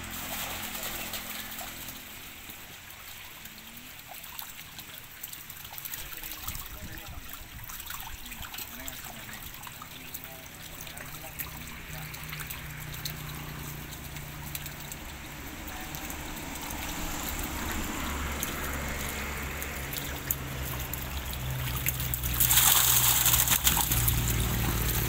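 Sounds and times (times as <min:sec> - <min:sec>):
water pouring off net: 0:00.0 - 0:25.0
water trickling and sloshing: 0:00.0 - 0:25.0.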